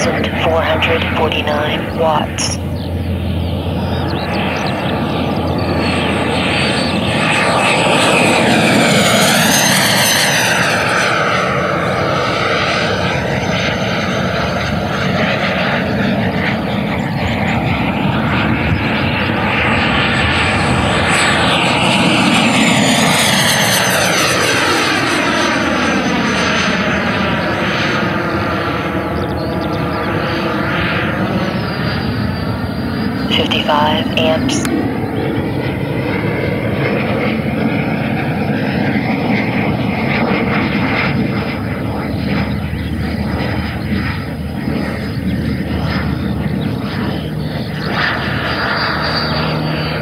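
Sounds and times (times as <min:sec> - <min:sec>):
model jet fan whine passing: 0:02.6 - 0:33.3, 0:34.2 - 0:50.0.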